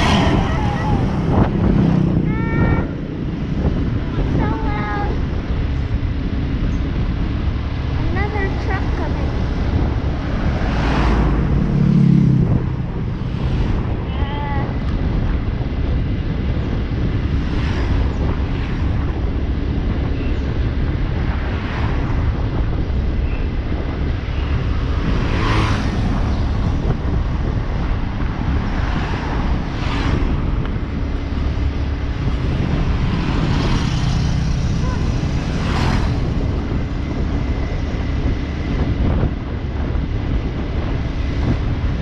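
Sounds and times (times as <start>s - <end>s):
motorcycle engine: 0.0s - 42.0s
wind rush on microphone: 0.0s - 42.0s.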